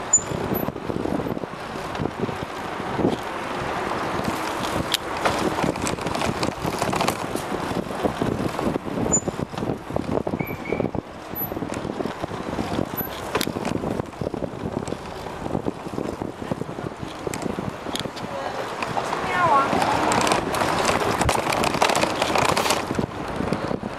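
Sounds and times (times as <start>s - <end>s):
bicycle rattling over pavement: 0.0s - 23.9s
traffic noise: 0.0s - 23.9s
wind on microphone: 0.0s - 23.9s.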